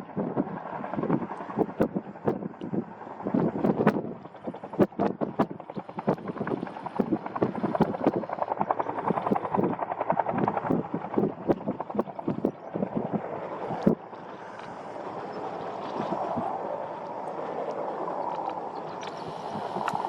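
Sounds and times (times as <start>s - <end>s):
helicopter rotor beating: 0.4s - 20.0s.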